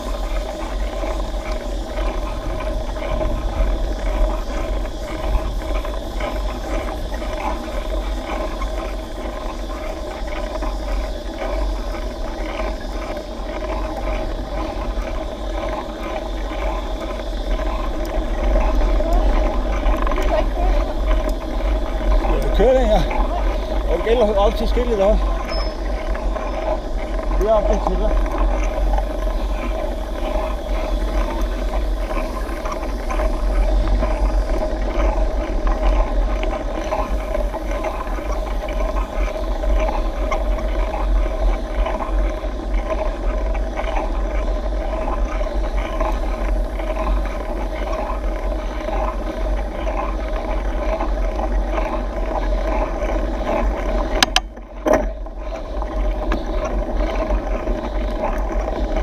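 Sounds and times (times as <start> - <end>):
mountain bike riding on concrete: 0.0 - 59.0.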